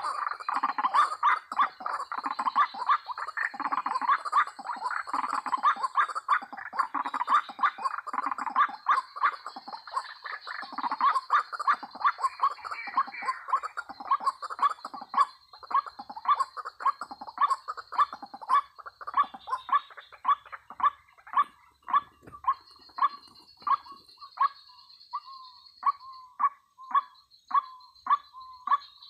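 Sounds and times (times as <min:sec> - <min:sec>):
bird calling repeatedly: 0:00.0 - 0:29.0.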